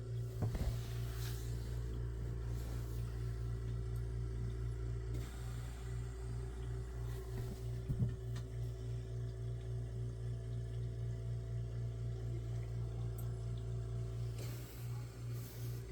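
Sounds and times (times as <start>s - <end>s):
pulsing low hum: 0.0s - 15.9s.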